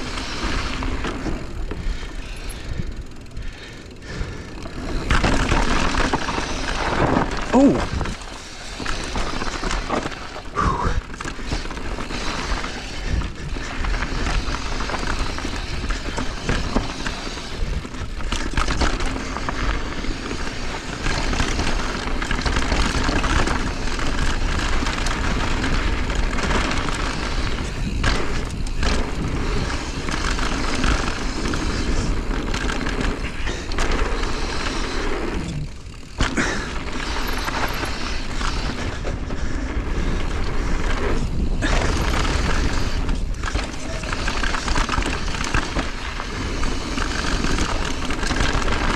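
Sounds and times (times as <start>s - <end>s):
bike rattling over rocks: 0.0s - 48.9s.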